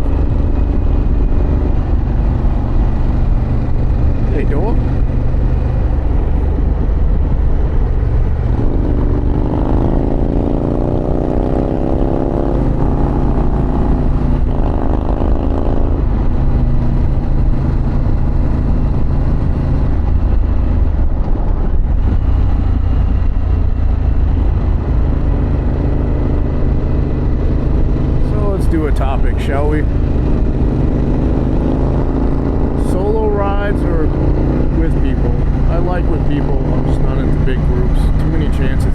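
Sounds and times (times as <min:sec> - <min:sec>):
motorcycle engine on the road: 0:00.0 - 0:38.9
wind rush: 0:00.0 - 0:38.9.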